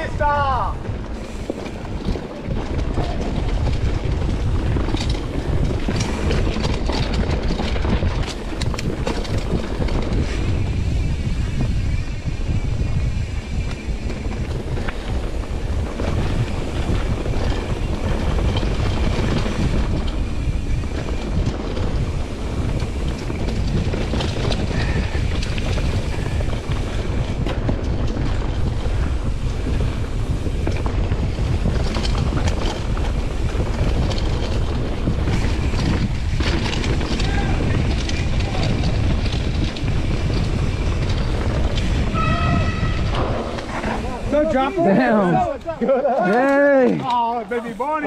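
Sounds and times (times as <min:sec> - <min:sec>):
bike knocks and rattles: 0:00.0 - 0:44.8
wind rumble on microphone: 0:00.0 - 0:46.0.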